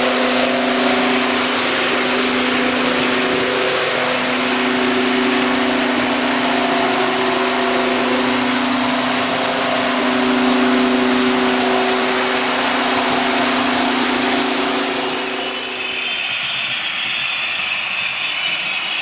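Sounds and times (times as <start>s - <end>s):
motor humming: 0.0s - 16.3s
rushing noise: 0.0s - 19.0s.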